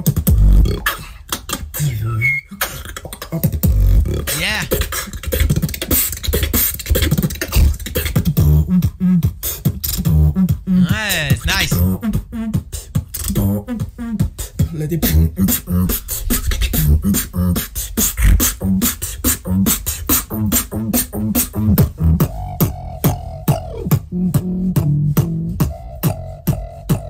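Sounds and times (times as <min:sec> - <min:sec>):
beatboxing: 0:00.0 - 0:27.0.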